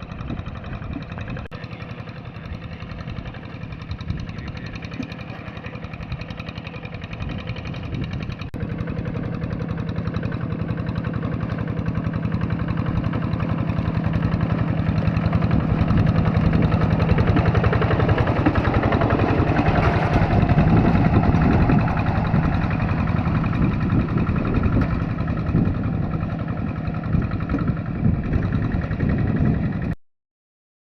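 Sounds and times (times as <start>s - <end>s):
tractor engine chugging: 0.0s - 30.0s.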